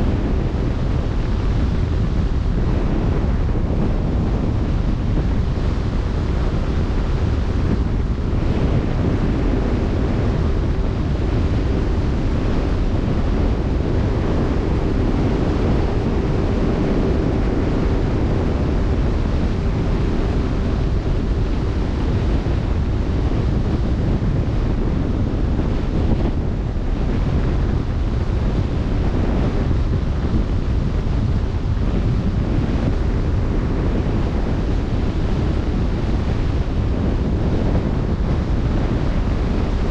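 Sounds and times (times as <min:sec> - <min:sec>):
faint steady hum: 0:00.0 - 0:39.9
wind buffeting microphone: 0:00.0 - 0:39.9.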